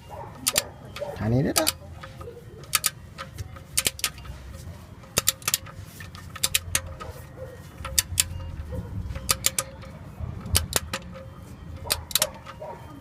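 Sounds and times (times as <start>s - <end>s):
torque wrench ratchet clicking: 0.4s - 4.3s, 5.1s - 7.1s, 7.8s - 12.6s.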